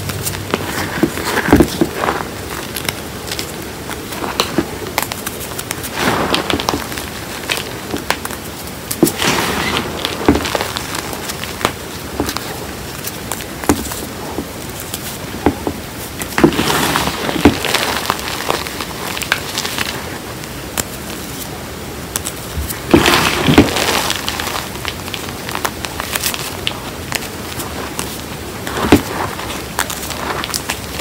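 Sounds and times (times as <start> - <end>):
chalk powder crunching and squeaking: 0.0 - 20.2, 22.2 - 31.0.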